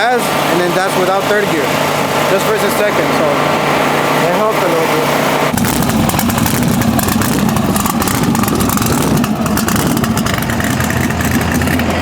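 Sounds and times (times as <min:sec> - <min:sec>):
vehicle engine running roughly: 0:00.0 - 0:12.0.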